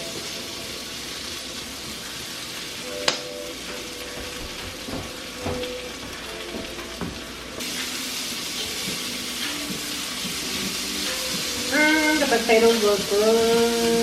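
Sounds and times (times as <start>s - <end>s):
potatoes sizzling in a pan: 0.0s - 4.3s, 5.3s - 14.0s.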